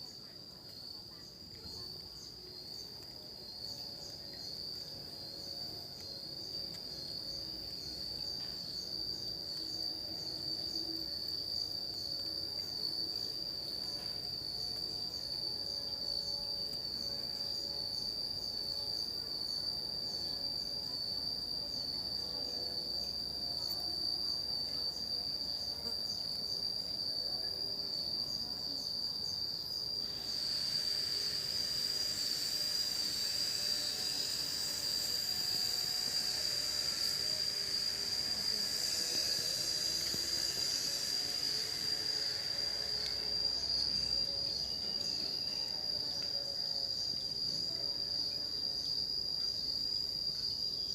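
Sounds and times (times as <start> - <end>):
cicadas droning: 0.0 - 50.9
loud hissing cicada chorus: 0.0 - 50.9.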